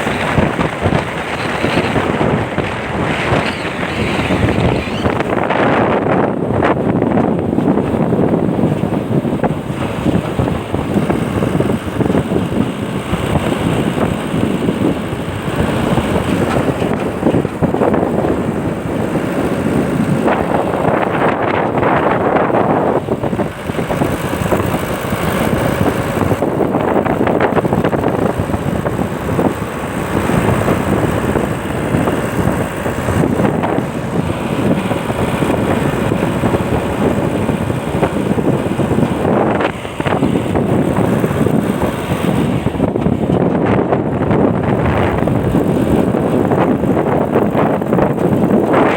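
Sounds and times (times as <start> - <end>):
car engine: 0.0 - 48.9
road noise: 0.0 - 48.9
wind rushing over microphone: 0.0 - 48.9.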